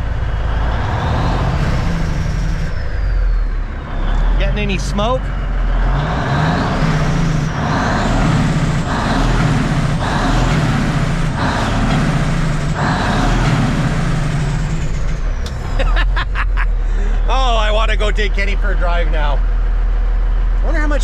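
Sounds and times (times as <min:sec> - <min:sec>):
diesel truck engine revving: 0:00.0 - 0:21.0.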